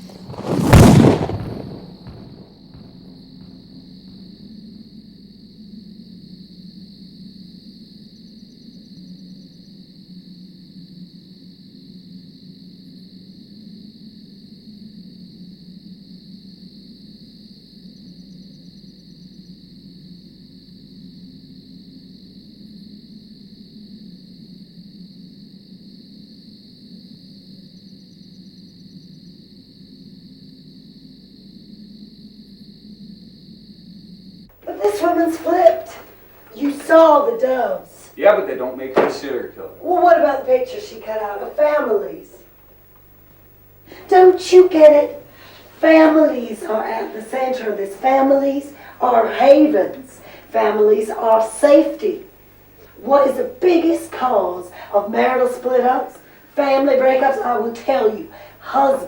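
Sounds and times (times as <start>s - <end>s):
high insect chorus: 0.0s - 59.0s.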